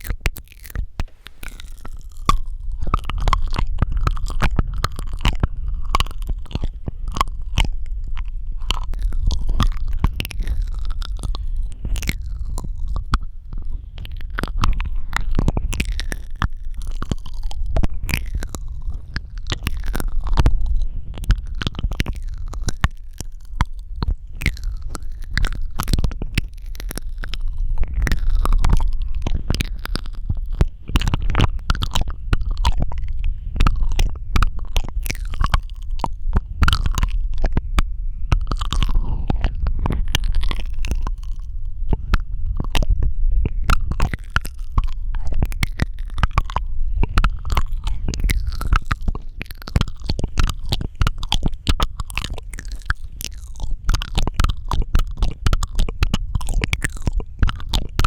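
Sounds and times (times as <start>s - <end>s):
steady low rumble: 0.0s - 58.0s
wet mouth clicks and smacks: 0.0s - 58.0s.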